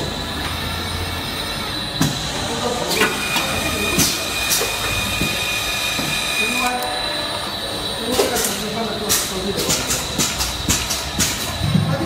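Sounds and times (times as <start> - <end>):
filling machine running: 0.0 - 11.6
high machine whine: 0.0 - 12.0.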